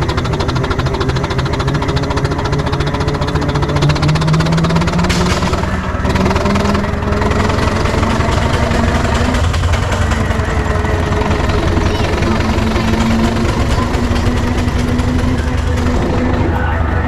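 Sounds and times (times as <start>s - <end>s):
steam engine beating fast: 0.0s - 17.0s
whine rising in pitch: 0.0s - 17.0s.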